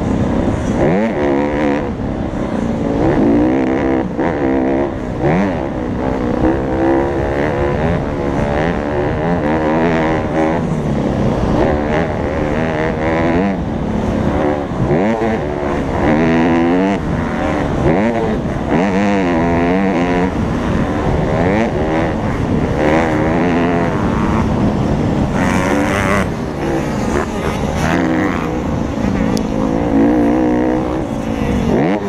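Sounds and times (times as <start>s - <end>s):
motorbike engine revving: 0.0s - 32.0s
wind rumble on microphone: 0.0s - 32.0s.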